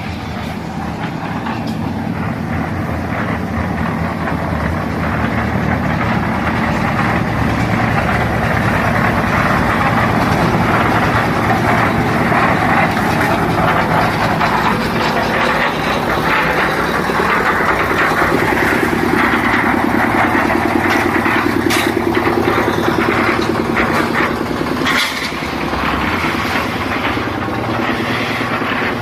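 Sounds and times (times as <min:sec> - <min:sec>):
concrete mixer running: 0:00.0 - 0:29.0.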